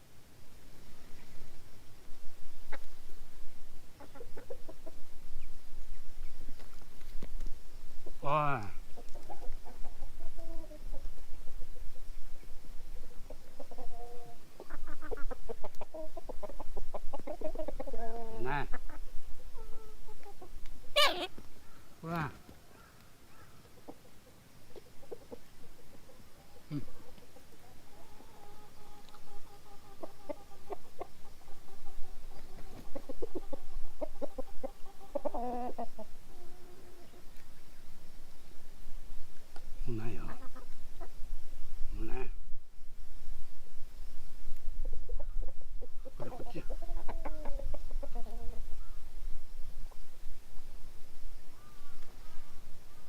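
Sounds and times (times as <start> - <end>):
chickens clucking: 0.6 - 42.4, 44.3 - 53.0.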